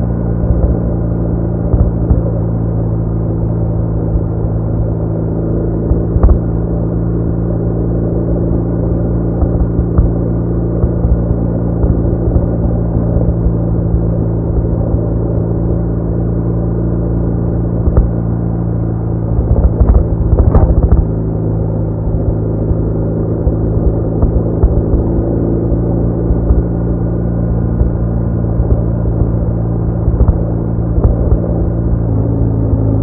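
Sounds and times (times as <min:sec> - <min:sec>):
motorcycle engine cruising: 0:00.0 - 0:33.0
road and wind rumble: 0:00.0 - 0:33.0.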